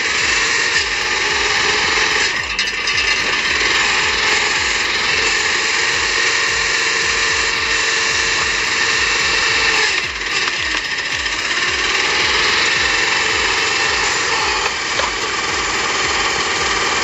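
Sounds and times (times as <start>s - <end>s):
wood-processing machine pulsing: 0.0s - 17.0s.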